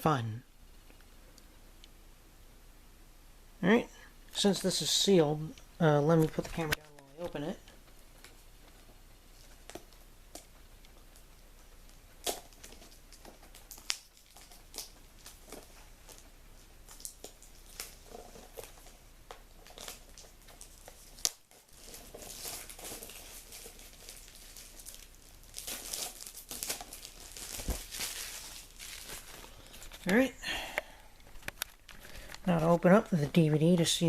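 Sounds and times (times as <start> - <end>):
plastic wrap crackling: 5.6 - 33.5.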